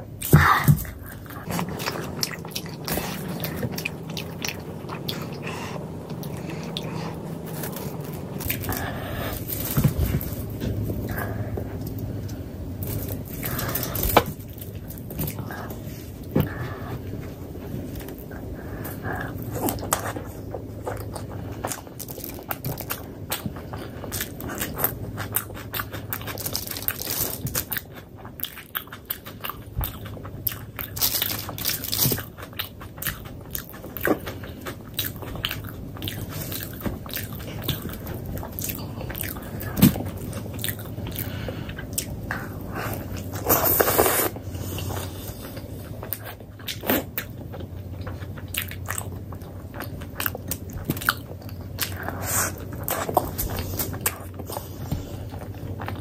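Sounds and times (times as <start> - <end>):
chewing with crunches: 0.0 - 56.0.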